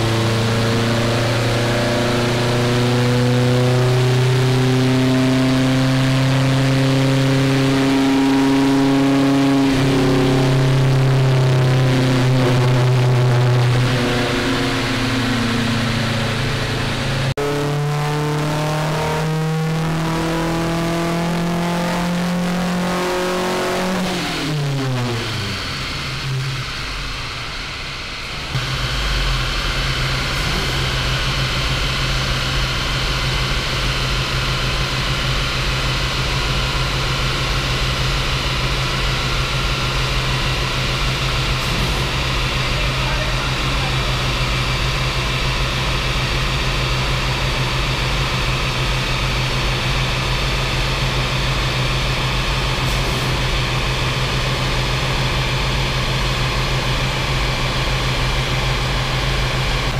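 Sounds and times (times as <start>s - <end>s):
loud rushing hum: 0.0s - 20.8s, 23.2s - 59.9s
car engine revving on a dyno: 0.0s - 59.9s.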